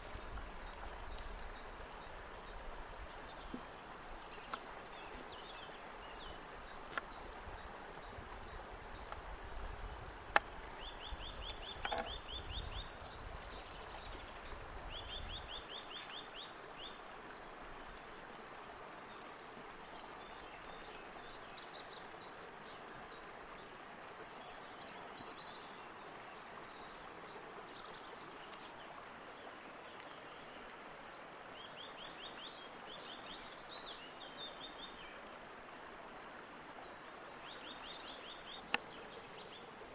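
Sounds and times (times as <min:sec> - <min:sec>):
creek water noise: 0:00.0 - 0:39.9.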